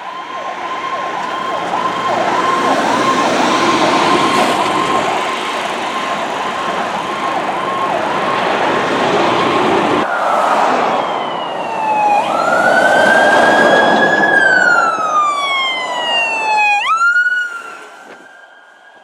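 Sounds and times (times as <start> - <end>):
engine and road noise: 0.0 - 19.0
fire truck siren wailing: 0.0 - 19.0.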